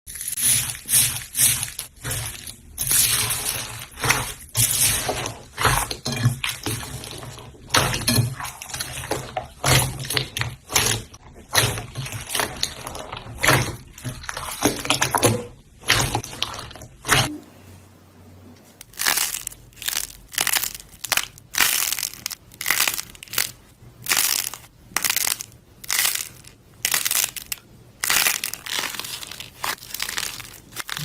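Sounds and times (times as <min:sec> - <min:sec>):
slime squelching and popping: 0:00.2 - 0:17.4, 0:18.8 - 0:31.0.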